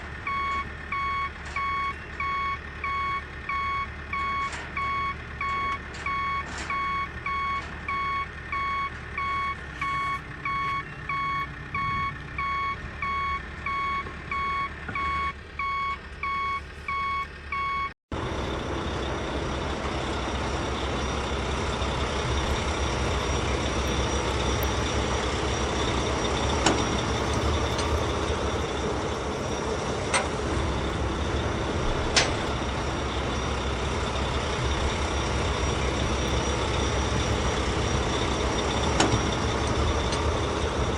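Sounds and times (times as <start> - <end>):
truck engine running: 0.0 - 40.9
truck reversing alarm beeping: 0.0 - 40.9.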